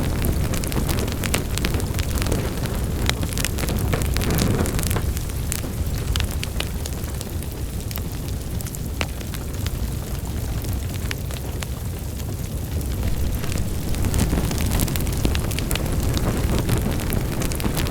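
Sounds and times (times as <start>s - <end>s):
fire roaring: 0.0s - 17.9s
logs crackling and popping: 0.0s - 17.9s.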